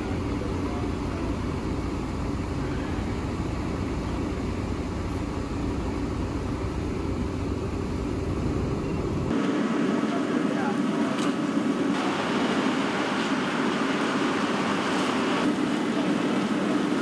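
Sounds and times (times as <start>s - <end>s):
fire engine pumps rumbling: 0.0s - 17.0s.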